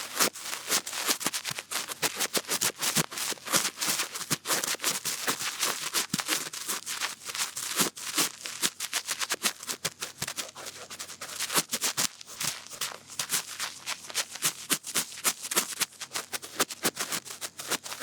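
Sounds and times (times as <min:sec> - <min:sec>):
cotton bud scratching in ear: 0:00.0 - 0:18.0.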